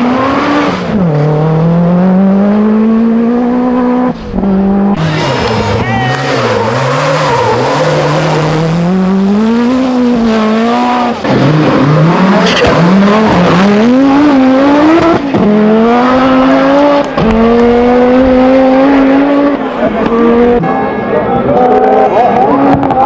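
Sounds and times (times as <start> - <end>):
rally car engine at full throttle: 0.0 - 23.0.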